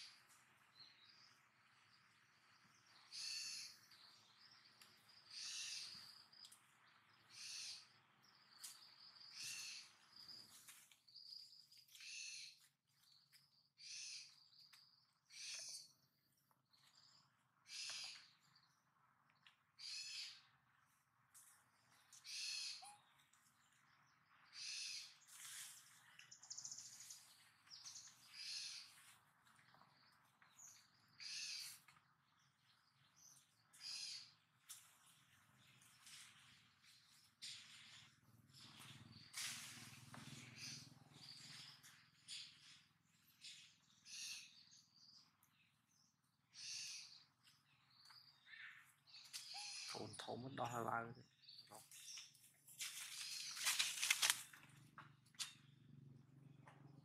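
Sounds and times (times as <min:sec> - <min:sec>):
faint forest background: 0:00.0 - 0:57.0.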